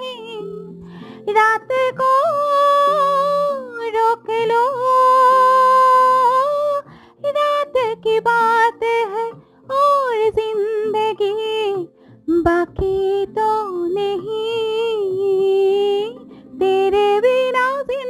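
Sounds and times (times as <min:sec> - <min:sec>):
woman singing slow film song: 0:00.0 - 0:18.0.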